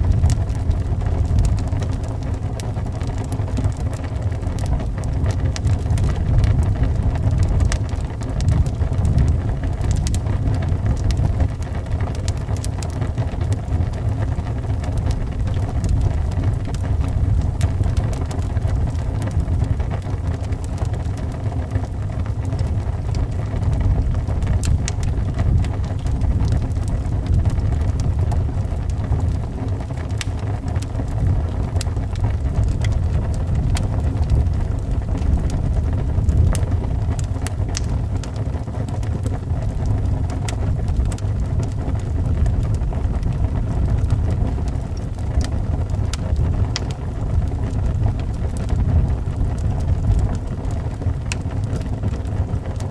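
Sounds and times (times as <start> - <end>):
wind howling around house: 0.0 - 52.9
wood fire popping and crackling: 0.0 - 52.9.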